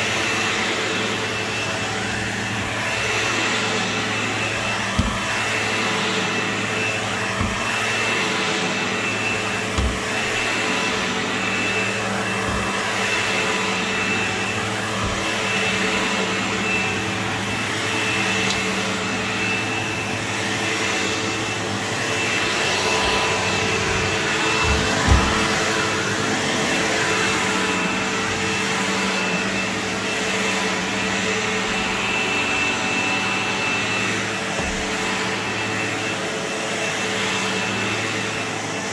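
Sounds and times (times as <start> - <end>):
vacuum cleaner on carpet: 0.0 - 38.9.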